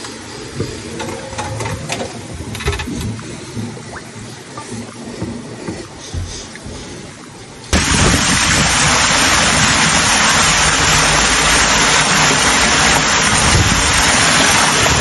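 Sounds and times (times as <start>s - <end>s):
floodwater rushing: 0.0s - 15.0s
low rumbling buffets: 0.0s - 15.0s.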